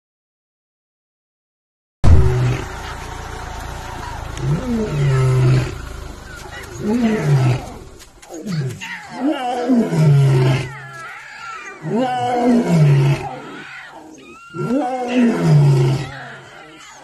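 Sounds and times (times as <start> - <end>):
lion roaring: 2.1 - 3.2, 4.0 - 16.9.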